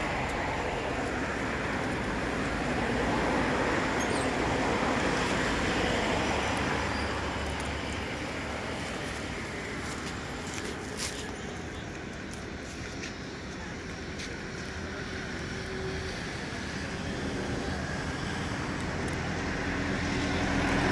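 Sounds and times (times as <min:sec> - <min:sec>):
outdoor background rumble: 0:00.0 - 0:20.9.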